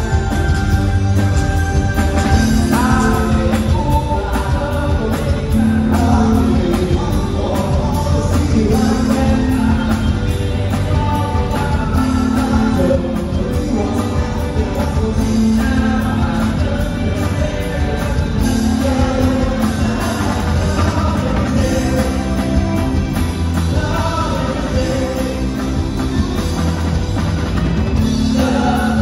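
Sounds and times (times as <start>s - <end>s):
person singing: 0.0s - 27.2s, 27.9s - 29.0s
electric guitar: 0.0s - 29.0s
live rock band: 0.0s - 29.0s.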